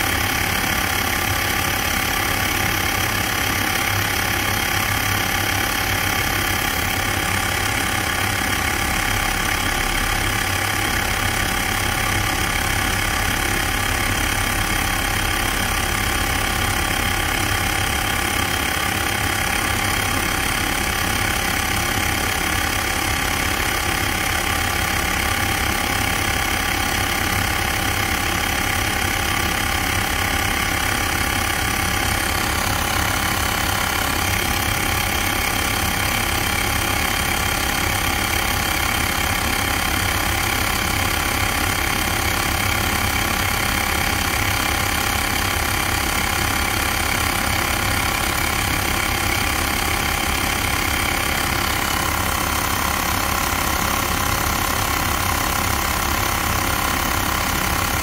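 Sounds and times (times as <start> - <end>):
air pump compressor running: 0.0 - 58.0.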